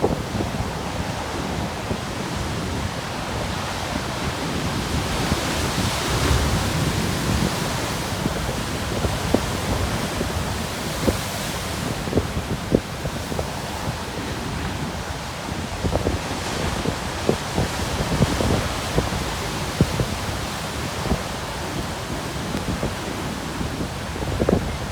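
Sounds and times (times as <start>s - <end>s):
ocean waves breaking on rocks: 0.0s - 24.9s
wind buffeting microphone: 0.0s - 24.9s.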